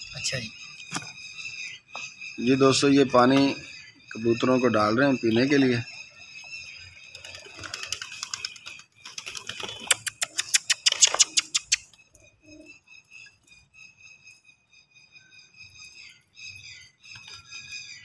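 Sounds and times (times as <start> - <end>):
faint high chirping: 0.0 - 18.0.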